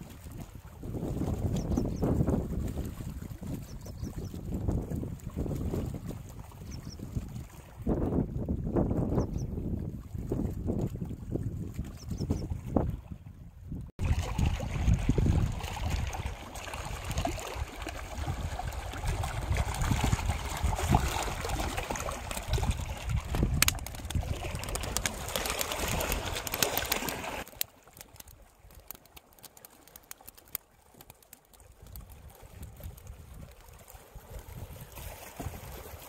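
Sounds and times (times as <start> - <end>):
water lapping on rocks: 0.0 - 8.9, 13.9 - 36.0
wind buffeting microphone: 0.0 - 27.2, 31.8 - 36.0.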